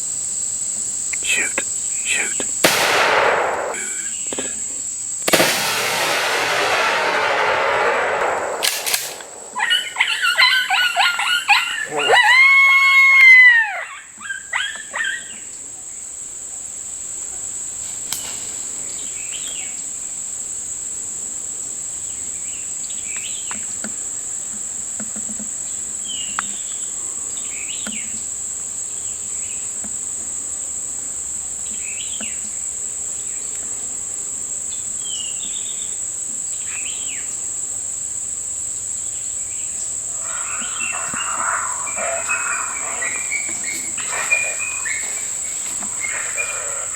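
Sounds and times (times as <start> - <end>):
insects buzzing: 0.0 - 46.9.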